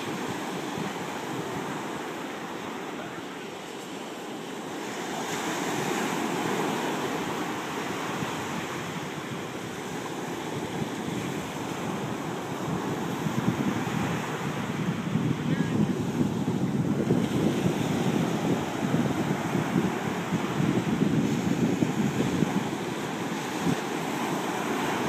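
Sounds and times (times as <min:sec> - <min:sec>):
surf breaking on beach: 0:00.0 - 0:25.0
wind on microphone: 0:00.0 - 0:25.0.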